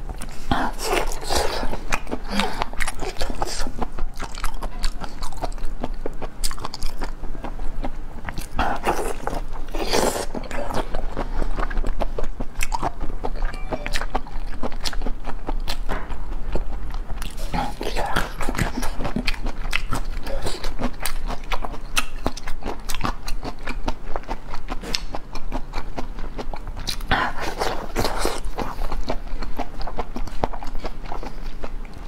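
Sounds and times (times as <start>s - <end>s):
biting and chewing: 0.0s - 32.0s.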